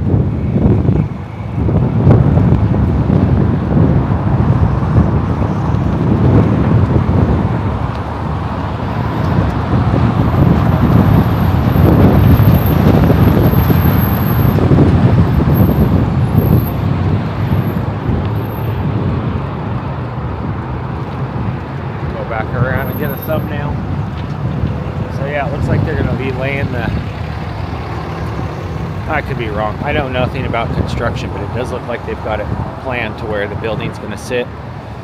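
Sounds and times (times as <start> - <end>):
road traffic rumbling: 0.0 - 35.0.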